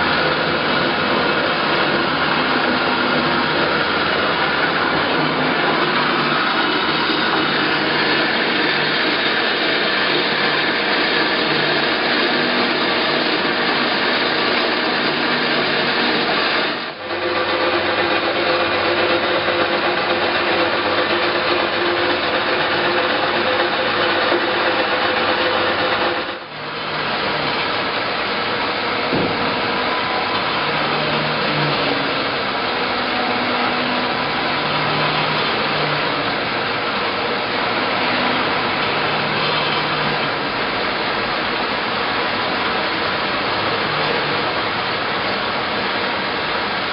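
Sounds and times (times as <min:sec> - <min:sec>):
bandsaw cutting metal: 0:00.0 - 0:46.8.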